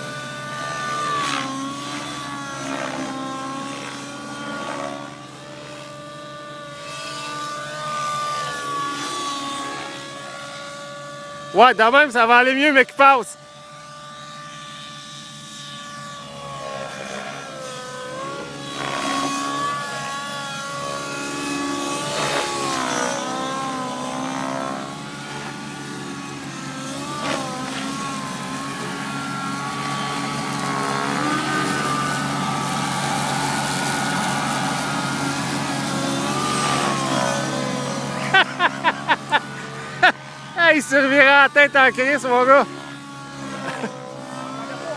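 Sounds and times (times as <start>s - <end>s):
model helicopter rotor whine: 0.0s - 44.9s.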